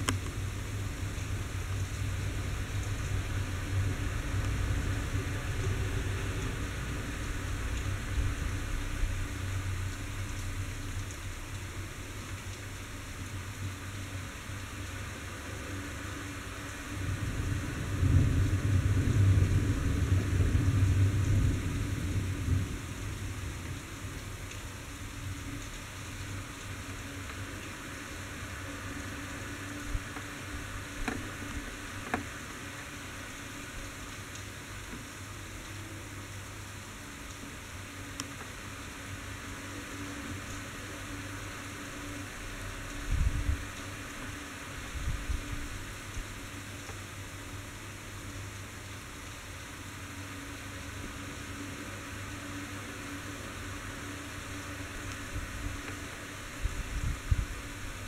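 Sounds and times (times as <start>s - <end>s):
rain hissing on street: 0.0s - 58.0s.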